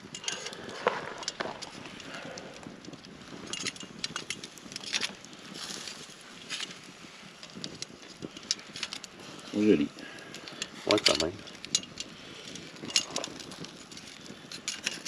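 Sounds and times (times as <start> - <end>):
low hiss of cooking food: 0.0 - 14.7
campfire crackling and popping: 0.0 - 15.0.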